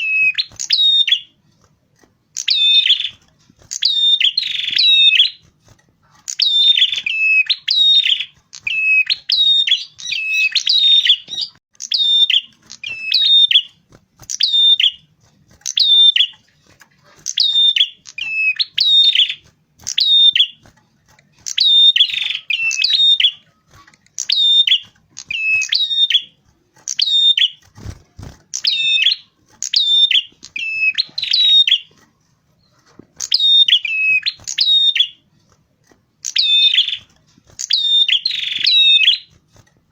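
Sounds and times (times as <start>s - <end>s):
warbler chirping rapidly: 0.0s - 1.3s, 2.3s - 5.4s, 6.2s - 20.7s, 21.4s - 31.9s, 32.6s - 35.2s, 36.2s - 39.3s.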